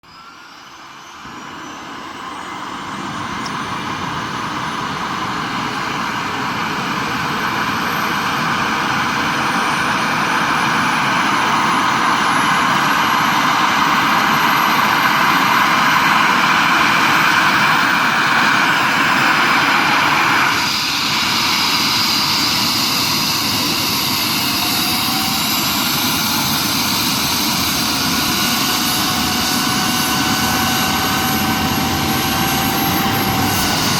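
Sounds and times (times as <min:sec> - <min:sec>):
helicopter turbine engines whining: 0:00.0 - 0:33.9.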